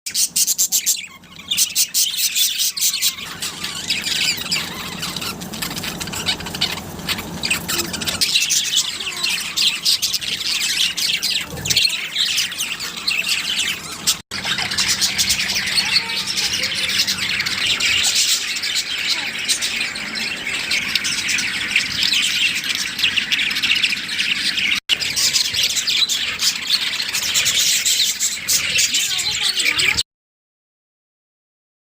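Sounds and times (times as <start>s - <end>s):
budgerigars chattering: 0.1s - 30.0s.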